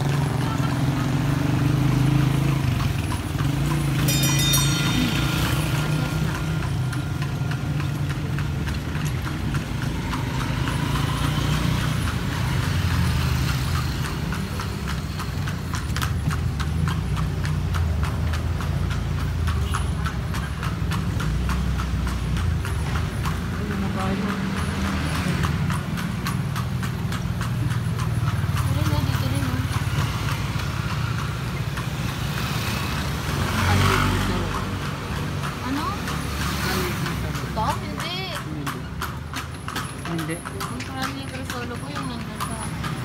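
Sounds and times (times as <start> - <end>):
horse hooves on pavement: 0.0 - 43.0.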